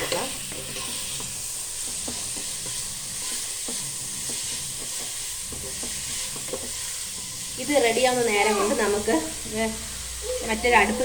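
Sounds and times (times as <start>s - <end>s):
spoon scraping a pan: 0.0s - 9.3s
onions sizzling in hot oil: 0.0s - 11.0s.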